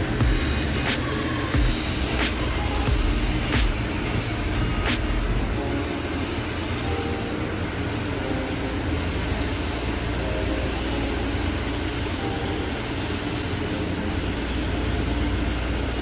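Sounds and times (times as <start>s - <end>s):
welding arc crackling and sizzling: 0.0s - 16.0s.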